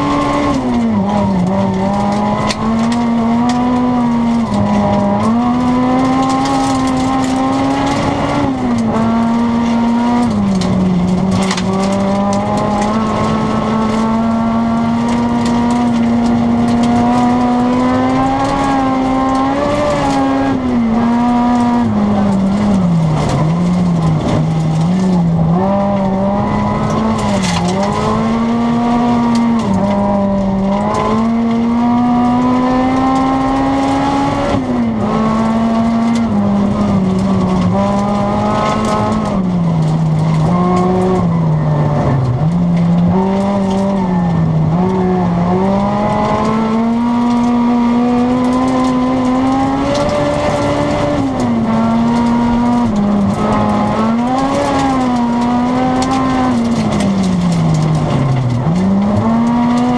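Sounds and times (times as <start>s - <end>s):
car engine at high revs: 0.0s - 59.9s
road and tyre noise: 0.0s - 59.9s.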